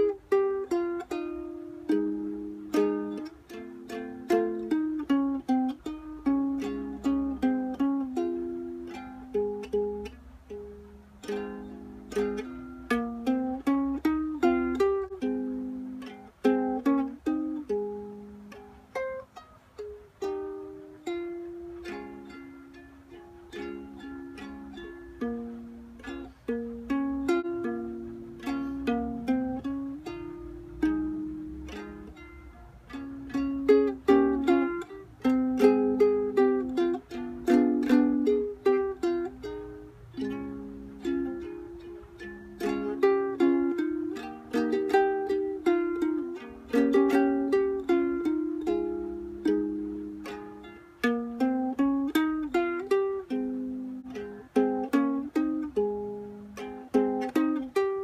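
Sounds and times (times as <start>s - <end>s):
solo ukulele playing: 0.0s - 58.0s.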